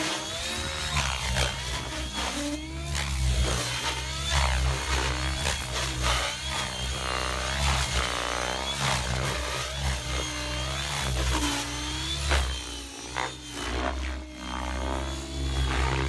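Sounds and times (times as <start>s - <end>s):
model helicopter motor whine: 0.0s - 16.0s.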